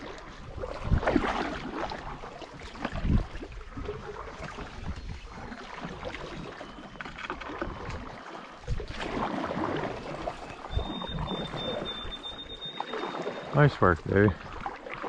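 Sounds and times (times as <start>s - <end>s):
paddles stroking through water: 0.0s - 15.0s
water splashing and dripping: 0.0s - 15.0s.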